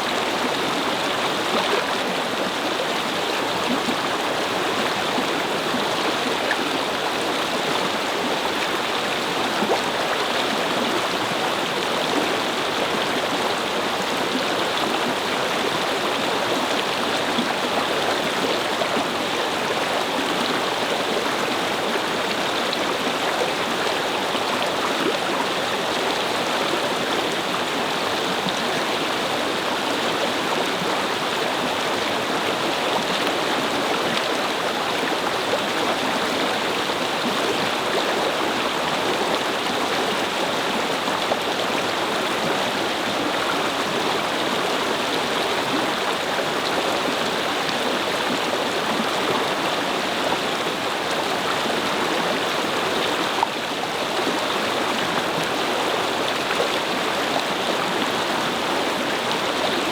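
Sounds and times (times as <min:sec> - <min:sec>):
brook babbling over stones: 0:00.0 - 0:59.9.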